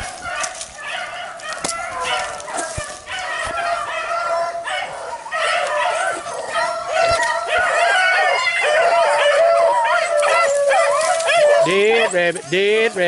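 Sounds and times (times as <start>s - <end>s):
hounds baying and yelping: 0.0s - 13.0s.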